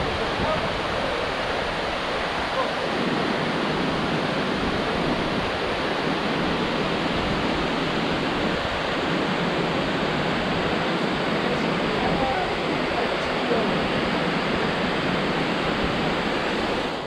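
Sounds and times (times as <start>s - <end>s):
waterfalls rushing into river: 0.0s - 17.0s.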